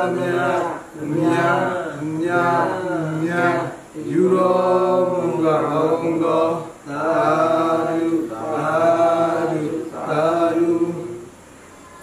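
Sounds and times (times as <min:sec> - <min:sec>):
man chanting: 0:00.0 - 0:11.3.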